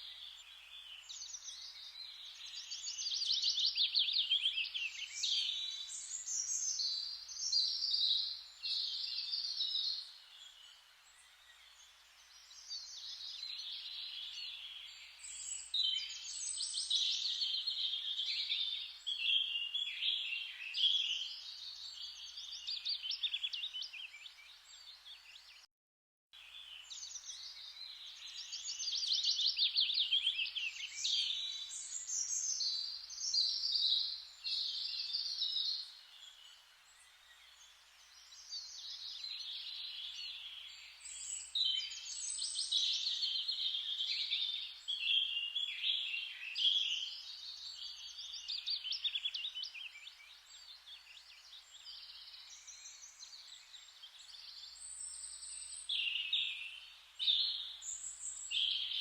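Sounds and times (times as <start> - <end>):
birds chirping and trilling: 0.1 - 25.7, 26.4 - 59.0.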